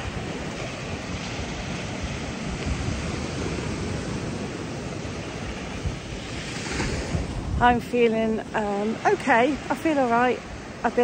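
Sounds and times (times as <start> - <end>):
sea surf washing onto shore: 0.0 - 11.0
wind buffeting microphone: 0.0 - 11.0.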